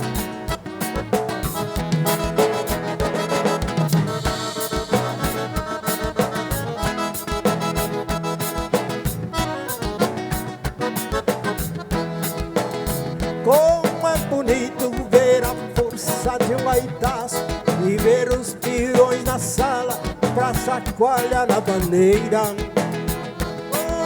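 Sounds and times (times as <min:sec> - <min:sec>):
accordion dance music: 0:00.0 - 0:24.0
steady drum beat: 0:00.0 - 0:24.0.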